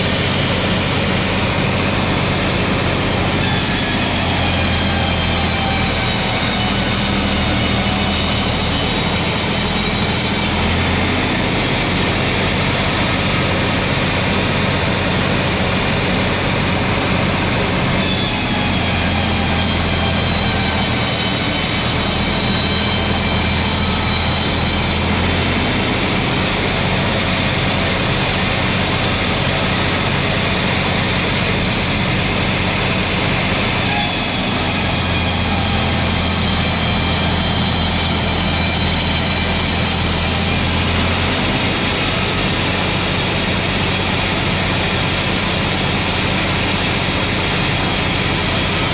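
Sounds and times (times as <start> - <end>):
saw whine: 0.0 - 48.9
sawmill motor hum: 0.0 - 48.9.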